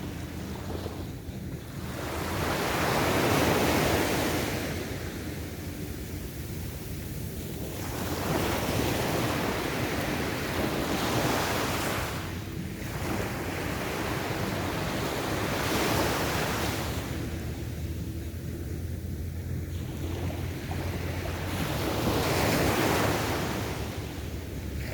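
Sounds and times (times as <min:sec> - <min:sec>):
waves breaking on a beach: 0:00.0 - 0:24.9
wind rumbling on microphone: 0:00.0 - 0:24.9.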